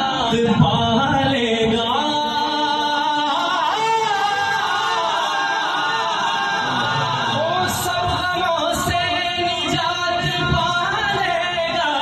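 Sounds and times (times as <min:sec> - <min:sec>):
man singing unaccompanied: 0:00.0 - 0:05.3, 0:07.3 - 0:12.0.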